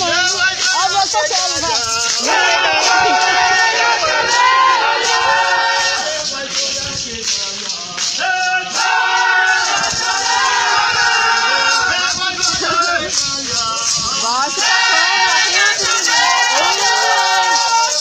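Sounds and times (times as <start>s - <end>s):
voices singing long held notes: 0.0s - 18.0s.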